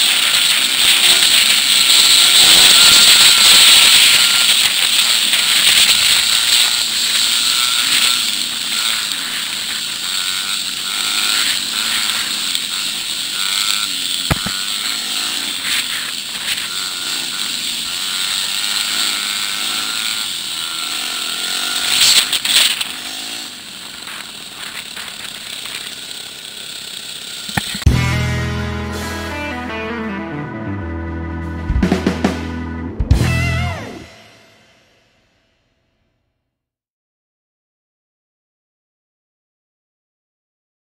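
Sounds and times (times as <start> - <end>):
dirt bike engines revving: 0.0 - 34.6.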